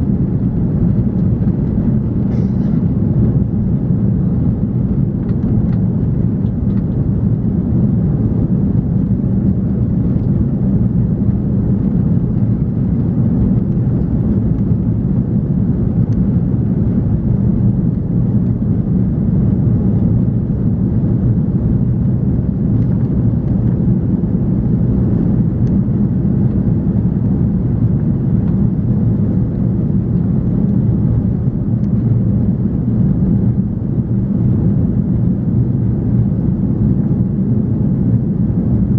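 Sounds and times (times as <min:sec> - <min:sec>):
airplane cabin engine rumble: 0:00.0 - 0:38.9
cabin airflow: 0:00.0 - 0:38.9.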